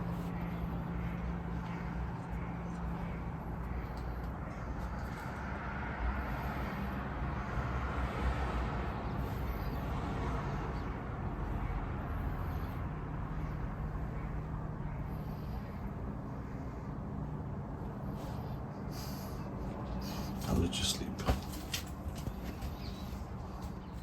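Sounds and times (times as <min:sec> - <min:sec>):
faint hum: 0:00.0 - 0:21.2.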